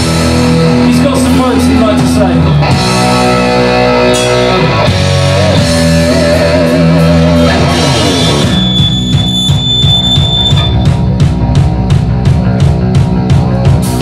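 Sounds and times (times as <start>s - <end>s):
bass guitar: 0.0s - 14.0s
distorted electric guitars: 0.0s - 14.0s
drums driving beat: 0.0s - 14.0s.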